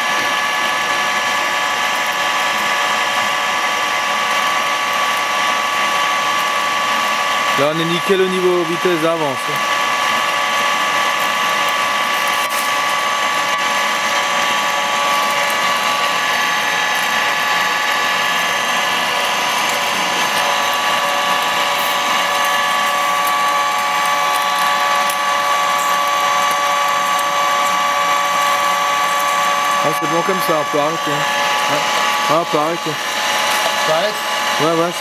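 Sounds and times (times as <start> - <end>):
drill gearbox whine: 0.0 - 35.0.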